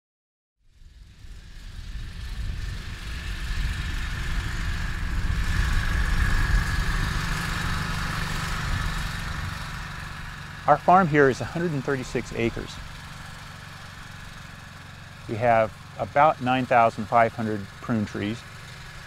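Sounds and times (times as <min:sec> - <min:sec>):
utility vehicle engine running: 0:00.7 - 0:19.0.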